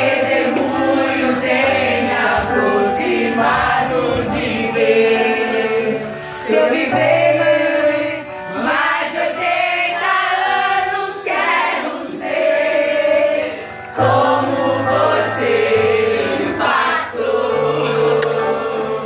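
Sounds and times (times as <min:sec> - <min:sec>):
choir singing a worship song: 0:00.0 - 0:19.0.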